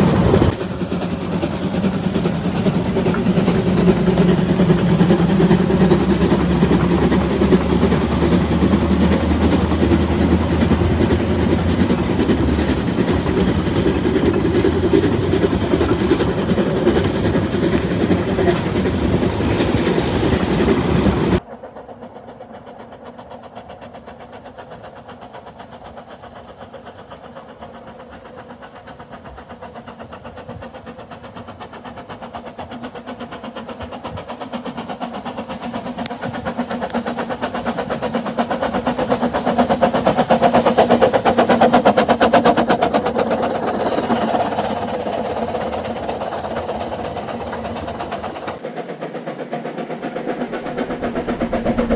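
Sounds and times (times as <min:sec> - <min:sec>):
steam train passing: 0:00.0 - 0:51.9.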